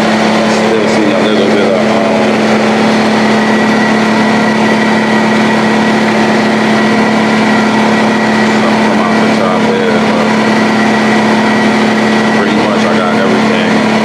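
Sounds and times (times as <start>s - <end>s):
air compressor running: 0.0s - 14.0s.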